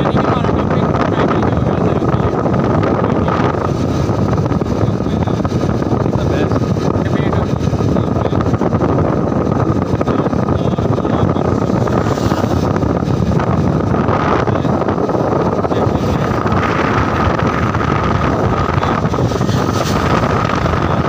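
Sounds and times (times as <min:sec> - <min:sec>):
road and engine noise: 0:00.0 - 0:21.0
wind buffeting microphone: 0:00.0 - 0:21.0.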